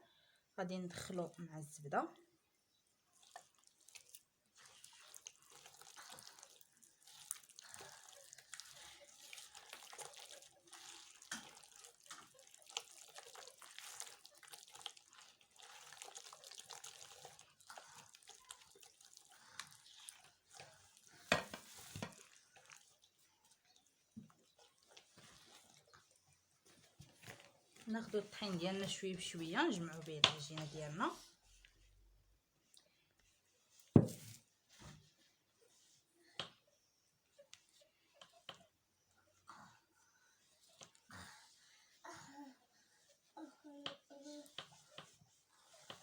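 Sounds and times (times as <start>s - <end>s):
wet squishing in a bowl: 0.7s - 46.0s.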